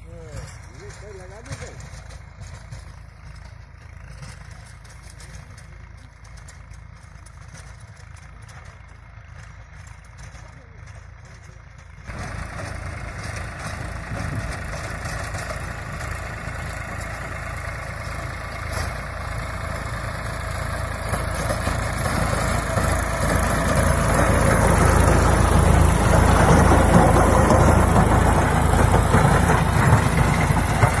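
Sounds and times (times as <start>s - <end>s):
rotary blades churning soil: 0.0s - 31.0s
tractor diesel engine under load: 0.0s - 31.0s.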